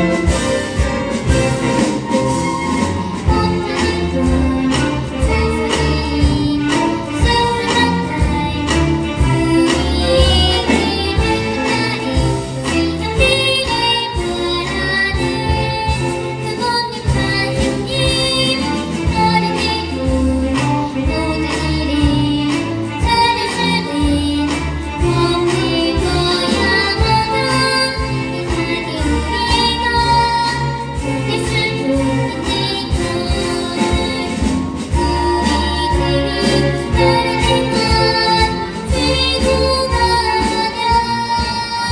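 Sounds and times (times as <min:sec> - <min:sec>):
children's choir singing: 0:00.0 - 0:41.9.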